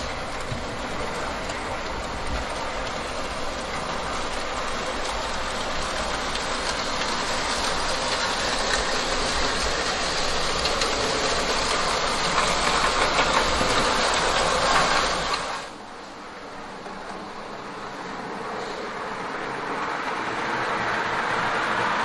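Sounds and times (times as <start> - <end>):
model train wheels rattling on rail: 0.0 - 22.0.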